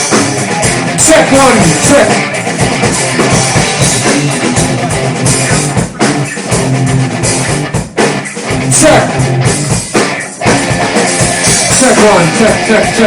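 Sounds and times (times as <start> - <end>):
drum kit groove: 0.0 - 13.0
electric guitar: 0.0 - 13.0
live rock band playing: 0.0 - 13.0.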